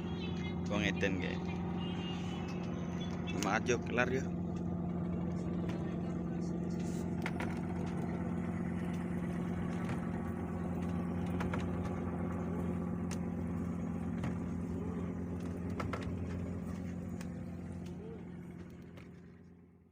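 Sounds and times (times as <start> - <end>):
boat engine droning: 0.0 - 19.9.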